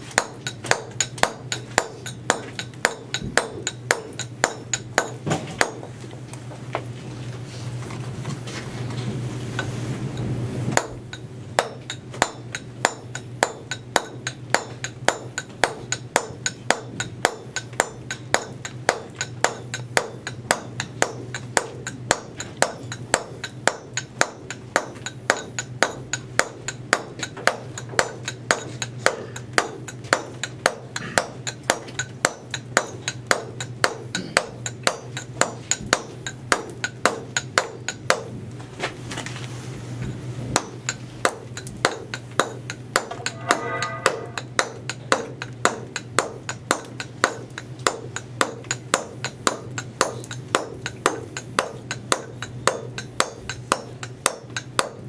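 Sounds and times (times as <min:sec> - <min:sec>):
mallet striking chisel into stone: 0:00.0 - 0:05.9, 0:10.7 - 0:38.3, 0:40.6 - 0:55.0.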